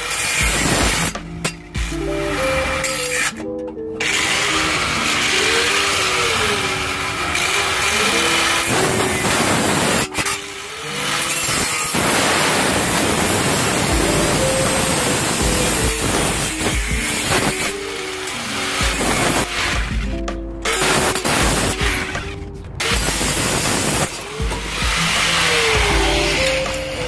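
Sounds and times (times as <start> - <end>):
angle grinder cutting metal pipe: 0.0 - 27.0
background music: 0.0 - 27.0.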